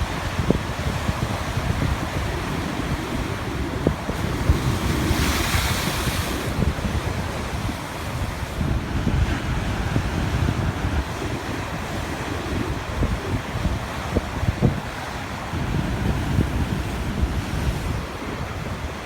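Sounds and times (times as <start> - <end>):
sea waves washing on shore: 0.0 - 19.0
wind buffeting microphone: 0.0 - 19.0.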